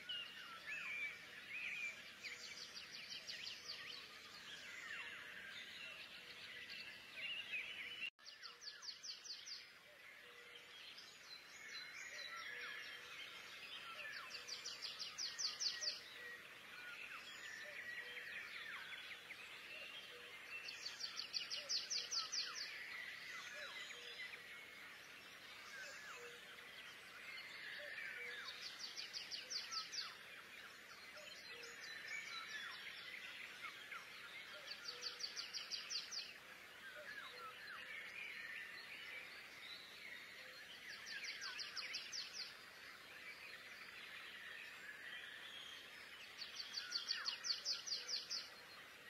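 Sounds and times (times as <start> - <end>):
bird chirps: 0.0 - 49.0.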